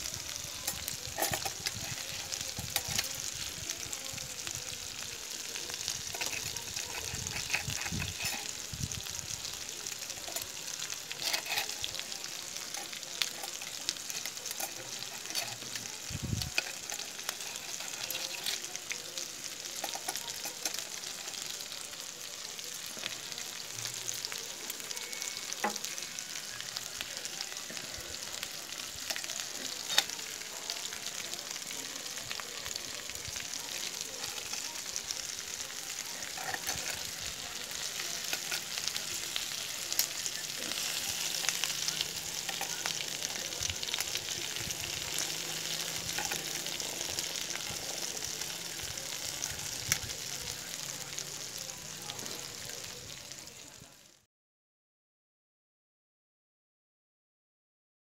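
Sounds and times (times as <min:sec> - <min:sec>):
meat sizzling in a pan: 0:00.0 - 0:54.3.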